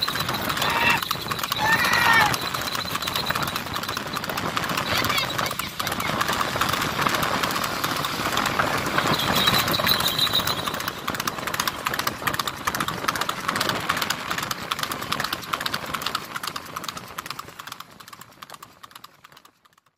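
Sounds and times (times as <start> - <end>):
steady rushing noise: 0.0 - 16.5
horse hoofbeats on paved road: 0.0 - 19.9.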